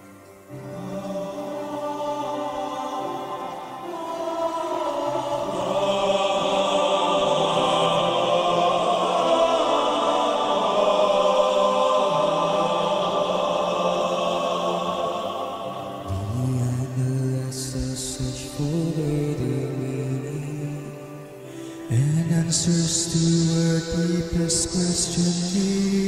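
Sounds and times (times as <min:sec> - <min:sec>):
male choir singing: 0:00.0 - 0:26.0.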